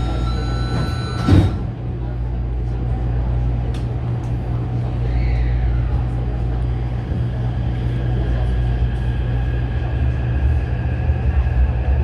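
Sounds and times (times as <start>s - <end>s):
metro train rumbling on track: 0.0s - 12.0s.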